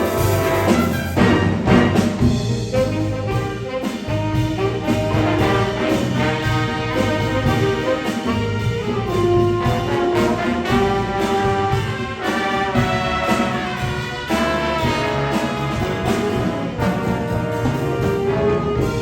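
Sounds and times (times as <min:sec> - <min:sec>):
brass section held notes: 0:00.0 - 0:19.0
jazz band playing: 0:00.0 - 0:19.0.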